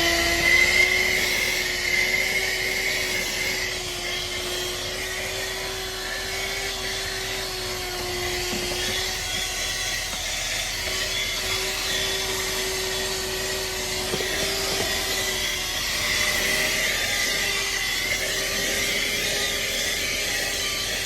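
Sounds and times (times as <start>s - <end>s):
handheld vacuum motor whine: 0.0s - 21.0s.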